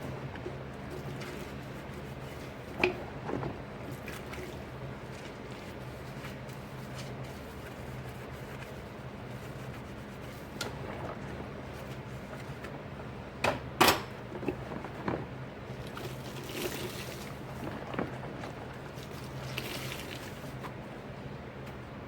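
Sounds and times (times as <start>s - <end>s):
water squishing and dripping: 0.0s - 12.6s, 14.4s - 20.8s
steady low hum: 0.0s - 22.0s.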